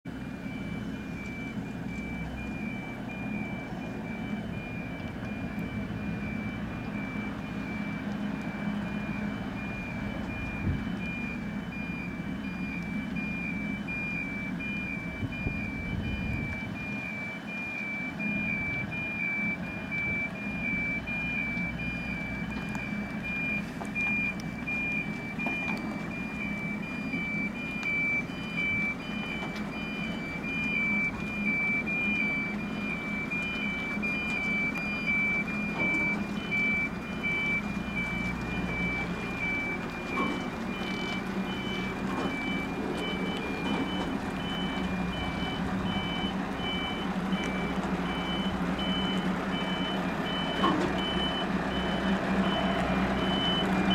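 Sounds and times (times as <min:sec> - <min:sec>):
diesel engine running low: 0:00.0 - 0:53.9
reversing alarm beeping: 0:00.1 - 0:53.9.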